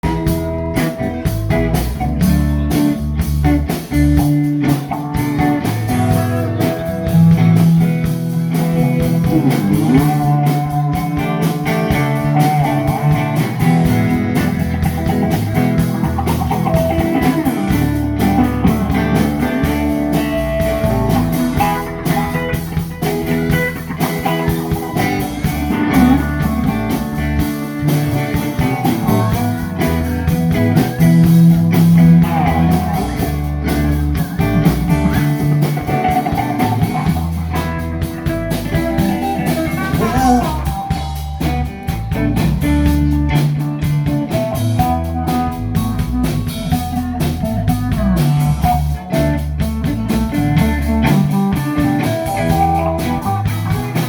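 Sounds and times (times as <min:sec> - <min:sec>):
bass and drums: 0:00.0 - 0:54.0
blues-rock guitar: 0:00.0 - 0:54.0.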